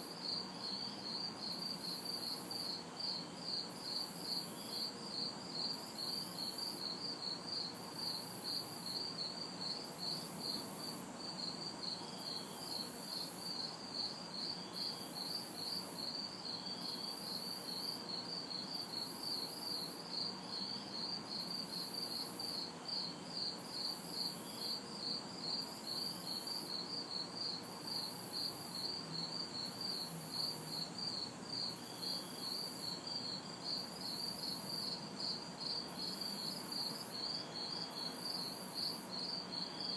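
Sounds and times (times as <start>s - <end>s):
crickets chirping: 0.0s - 39.9s
high insect buzz: 0.0s - 39.9s.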